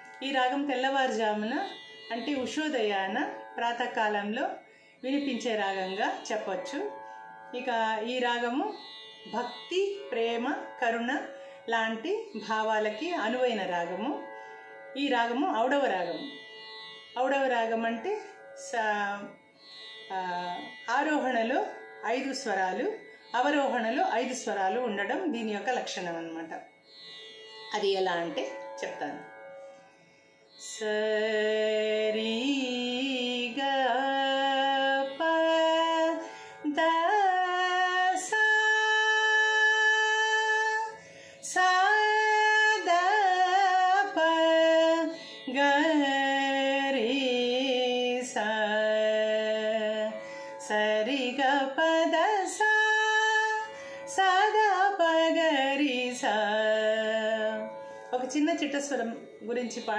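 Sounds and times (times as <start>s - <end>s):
woman singing: 0.0s - 14.3s, 15.0s - 16.4s, 17.2s - 19.4s, 20.1s - 26.7s, 27.7s - 29.4s, 30.6s - 59.9s
tanpura drone: 0.0s - 59.9s.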